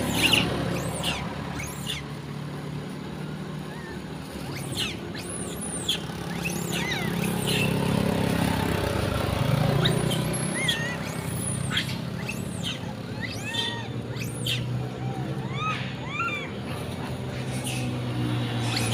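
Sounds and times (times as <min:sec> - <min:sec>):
monkeys squealing: 0:00.0 - 0:18.9
vehicle engine humming: 0:00.0 - 0:18.9.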